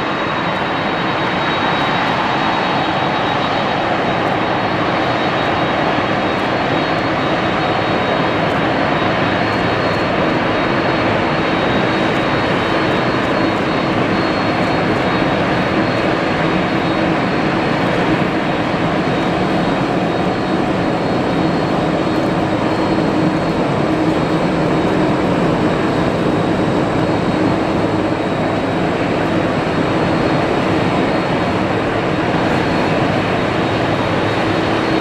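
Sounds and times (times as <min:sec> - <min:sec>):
high engine whine: 0:00.0 - 0:35.0
jet engines running: 0:00.0 - 0:35.0.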